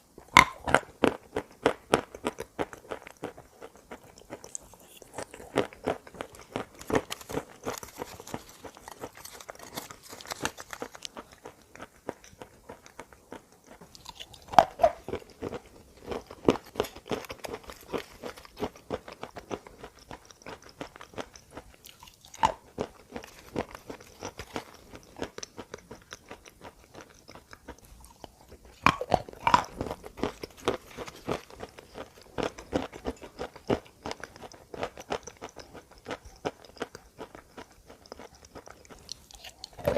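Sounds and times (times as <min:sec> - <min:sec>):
crunchy chewing of chalk: 0:00.2 - 0:39.9.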